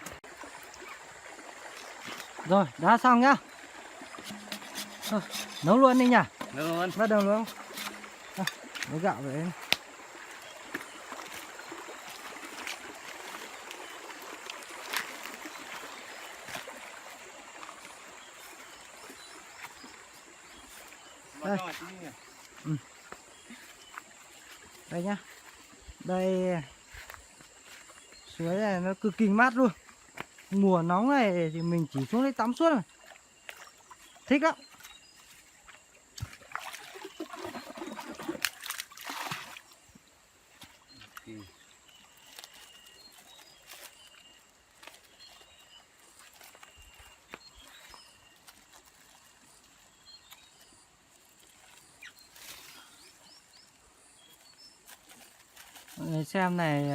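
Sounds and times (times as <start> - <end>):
stream running: 0.0 - 56.9.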